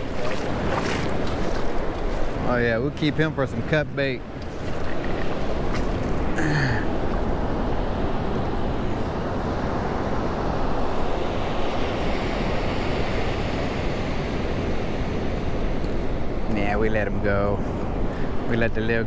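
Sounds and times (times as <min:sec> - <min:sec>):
wind buffeting microphone: 0:00.0 - 0:18.5
shallow surf: 0:00.0 - 0:19.0.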